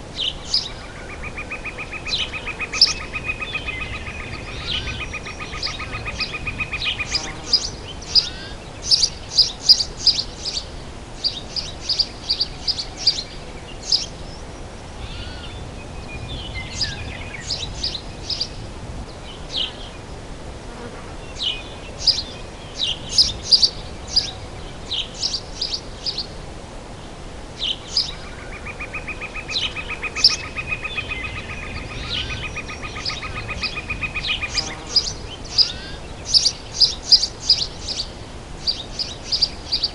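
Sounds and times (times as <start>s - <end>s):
birds chirping: 0.2s - 20.3s, 21.2s - 26.4s, 27.0s - 39.9s.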